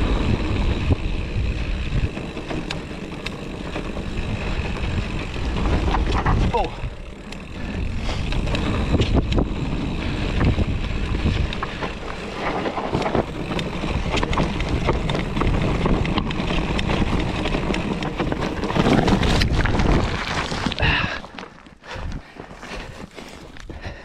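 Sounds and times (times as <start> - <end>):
wind rushing over microphone: 0.0 - 2.8, 3.6 - 21.0
bike knocking and clattering: 0.0 - 24.0
tyres running over dirt: 0.0 - 24.0.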